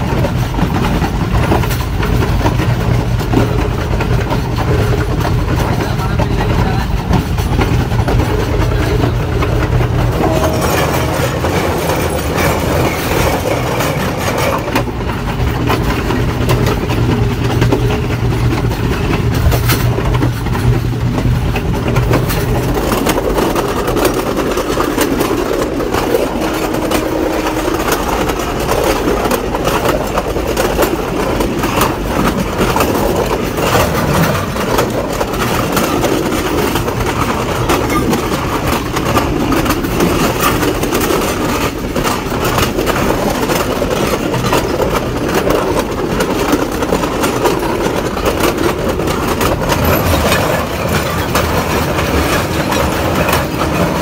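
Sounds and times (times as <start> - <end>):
train engine drone: 0.0 - 54.0
train running noise: 0.0 - 54.0
wheels clacking on rails: 0.0 - 54.0.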